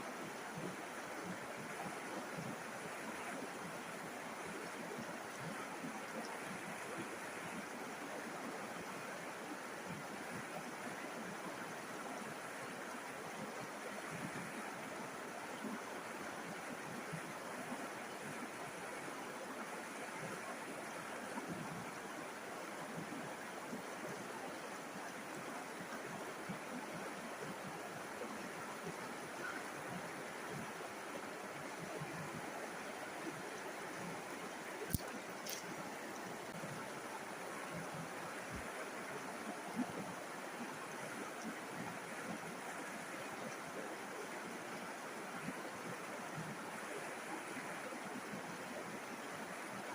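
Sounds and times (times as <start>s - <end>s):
river water flowing over rocks: 0.0s - 49.9s.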